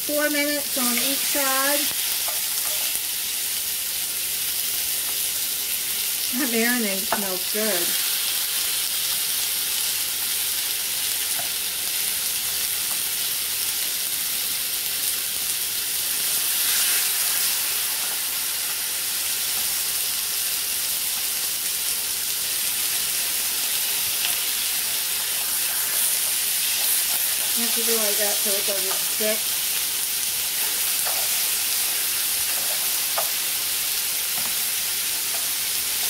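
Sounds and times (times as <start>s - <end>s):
chicken sizzling in a skillet: 0.0s - 36.0s.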